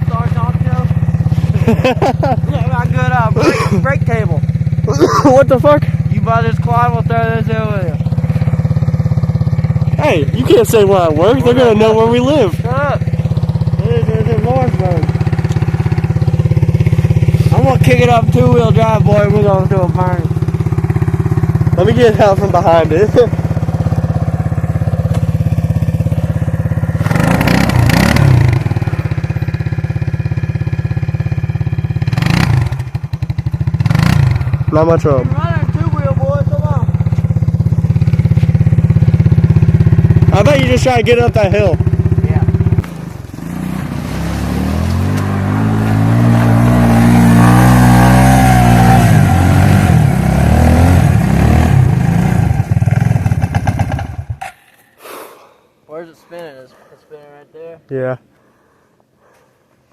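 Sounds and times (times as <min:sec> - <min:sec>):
quad bike engine revving: 0:00.0 - 0:54.8.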